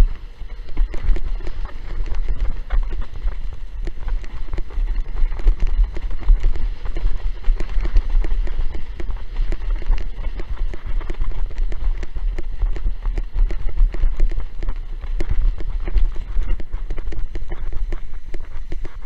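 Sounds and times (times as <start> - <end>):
board slapping on choppy water: 0.0 - 19.0
strong wind buffeting microphone: 0.0 - 19.0.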